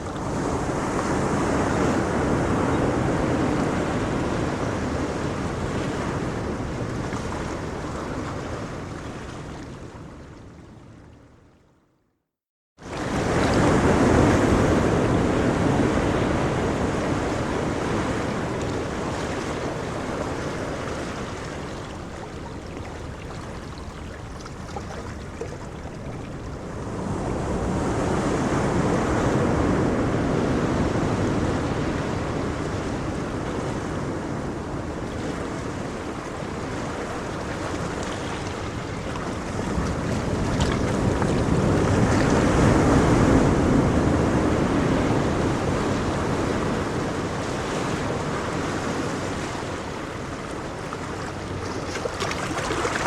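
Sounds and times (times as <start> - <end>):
ocean waves breaking on shore: 0.0 - 11.5, 12.8 - 53.0.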